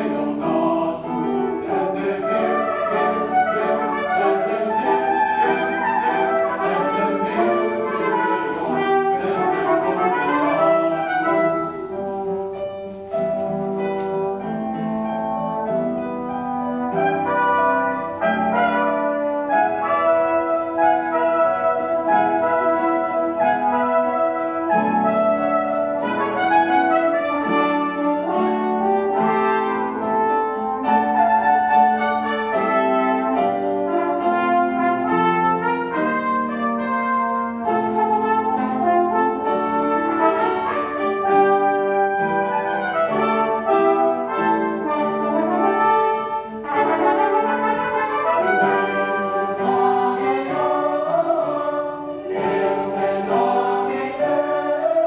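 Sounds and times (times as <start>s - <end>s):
mixed choir singing: 0.0s - 12.1s, 16.8s - 36.2s, 37.7s - 55.0s
brass-like wind instrument: 0.0s - 55.0s
piano accompaniment: 0.0s - 55.0s.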